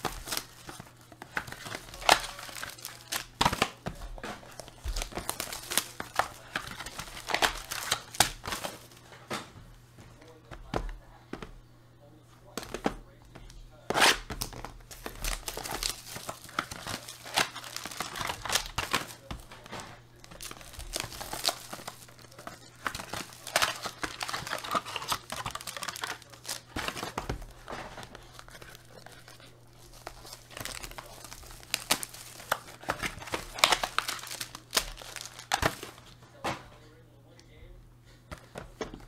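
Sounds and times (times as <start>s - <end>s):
plastic wrapping tearing and crinkling: 0.0s - 9.0s, 13.9s - 36.1s.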